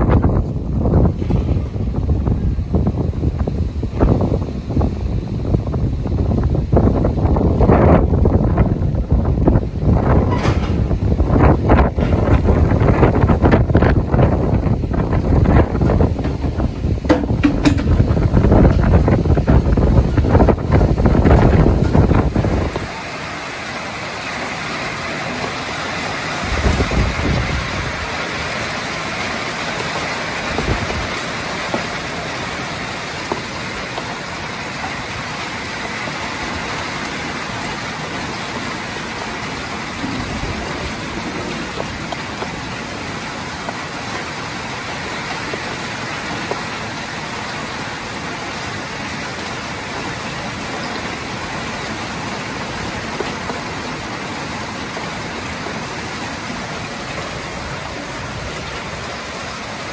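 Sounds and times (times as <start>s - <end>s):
heavy rain pouring: 0.0s - 59.9s
wind gusting against microphone: 0.0s - 59.9s.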